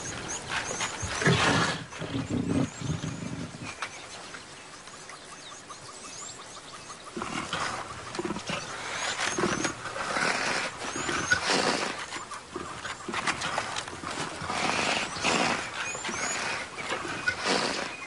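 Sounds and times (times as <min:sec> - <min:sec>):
lions growling: 0:00.0 - 0:03.8, 0:06.9 - 0:18.0.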